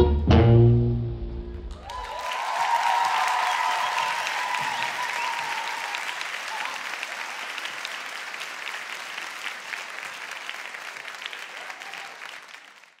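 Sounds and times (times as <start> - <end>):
audience applauding: 1.7 - 13.0.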